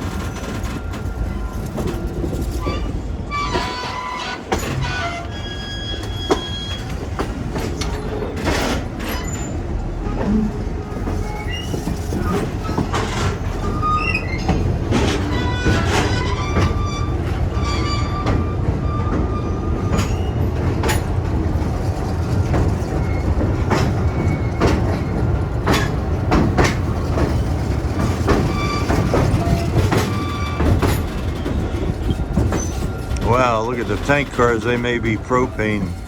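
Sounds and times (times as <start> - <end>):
wheel squeals: 0.0 - 21.1, 21.8 - 35.0
train car rumbling on track: 0.0 - 36.0
wheels clicking over rail joints: 0.0 - 36.0.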